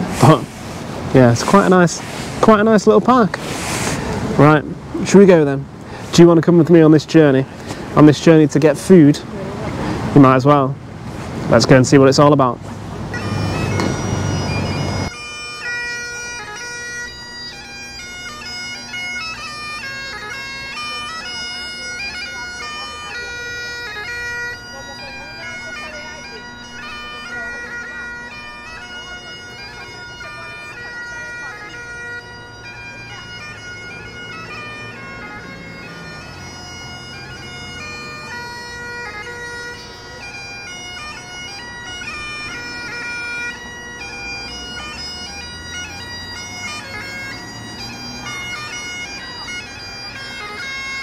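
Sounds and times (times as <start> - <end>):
bagpipe melody: 0.0 - 10.9, 11.5 - 51.0
bagpipe drone: 0.0 - 51.0.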